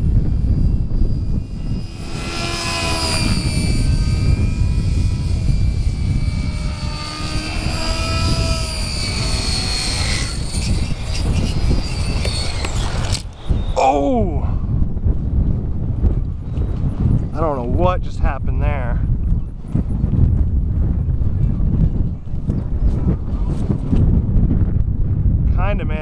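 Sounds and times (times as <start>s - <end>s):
rc helicopter motor and rotors whining: 0.0s - 26.0s
steady low rumble: 0.0s - 26.0s.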